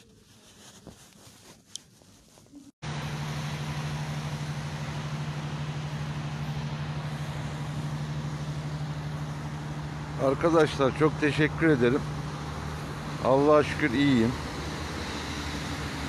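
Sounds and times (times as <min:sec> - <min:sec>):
road traffic hiss on wet streets: 0:02.8 - 0:16.0.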